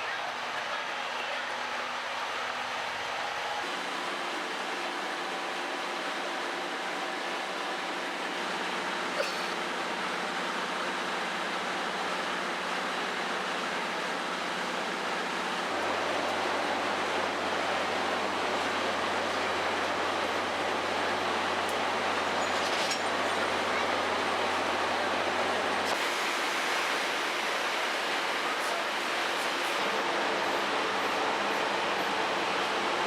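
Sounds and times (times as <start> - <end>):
train running on rails: 0.0 - 33.0.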